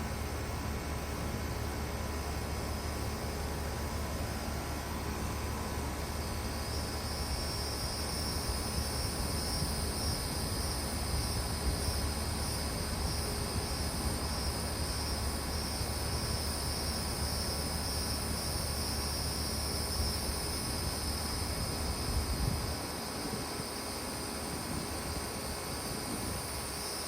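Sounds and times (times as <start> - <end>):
condenser fan rushing: 0.0 - 27.0
insect trill: 2.4 - 27.0.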